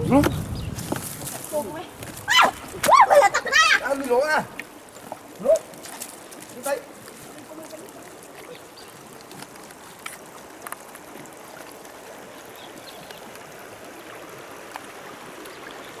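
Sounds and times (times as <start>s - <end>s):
flowing water: 0.0s - 16.0s.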